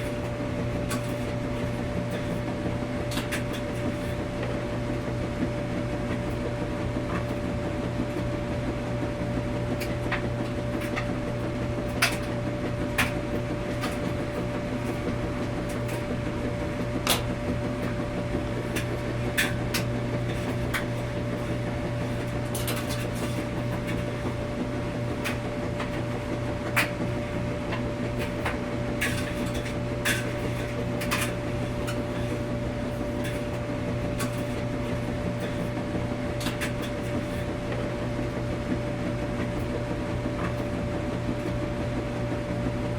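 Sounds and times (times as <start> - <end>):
washing machine humming: 0.0 - 42.9.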